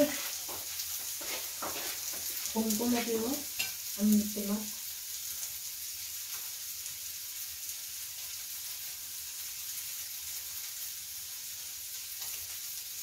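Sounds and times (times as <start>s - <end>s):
food sizzling on grill plate: 0.0s - 13.0s.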